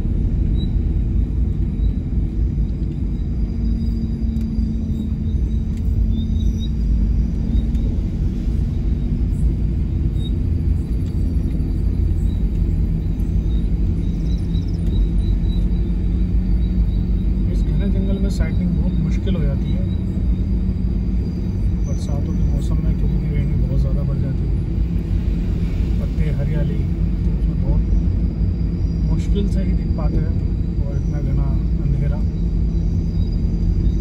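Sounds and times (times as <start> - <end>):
road and engine rumble inside car: 0.0 - 34.0.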